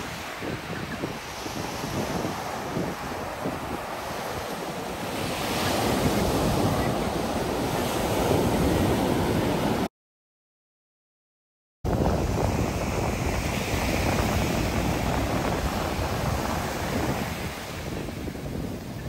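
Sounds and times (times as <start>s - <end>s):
surf breaking on beach: 0.0s - 9.9s, 11.9s - 19.0s
wind on microphone: 0.0s - 9.9s, 11.9s - 19.0s.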